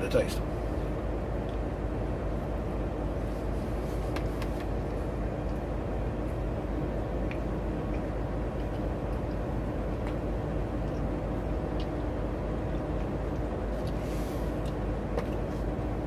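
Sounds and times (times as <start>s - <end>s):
truck engine hum: 0.0s - 16.0s.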